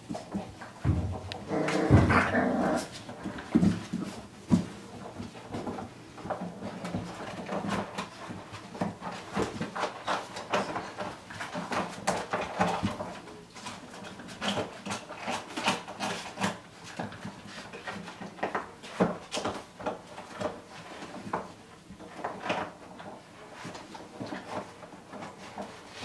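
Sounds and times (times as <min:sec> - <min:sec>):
plastic basket knocking and scraping: 0:00.0 - 0:26.0.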